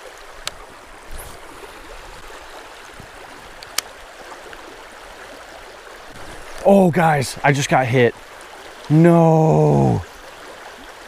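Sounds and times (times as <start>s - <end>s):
river water flowing over rocks: 0.0s - 11.0s.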